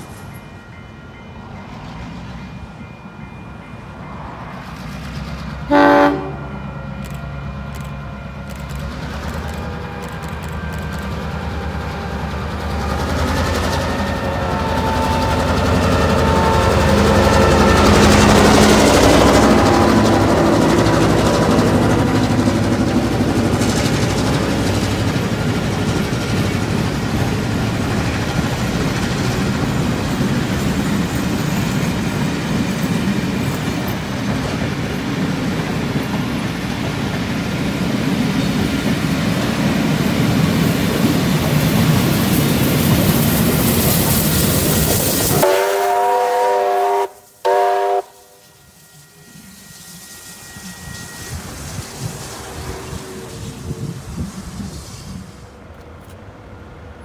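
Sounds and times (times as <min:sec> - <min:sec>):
steam locomotive passing: 0:00.0 - 0:57.0
train wheels rumbling on track: 0:00.0 - 0:57.0.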